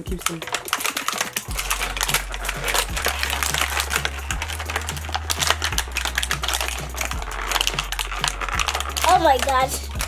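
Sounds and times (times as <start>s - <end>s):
background music with bass: 0.0s - 10.0s
plastic packaging crinkling: 0.0s - 10.0s.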